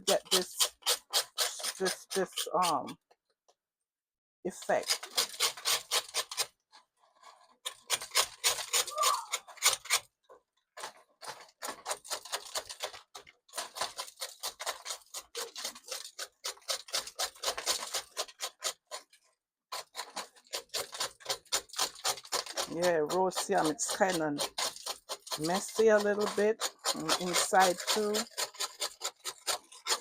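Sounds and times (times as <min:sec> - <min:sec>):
knife scraping roasted yam: 0:00.0 - 0:03.0, 0:04.5 - 0:06.6, 0:07.7 - 0:10.1, 0:11.4 - 0:30.0.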